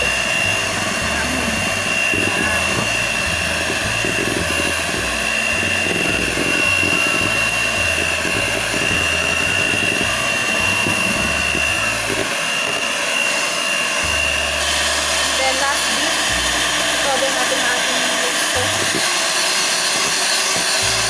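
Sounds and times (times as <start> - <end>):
electric hand mixer whining: 0.0 - 21.0.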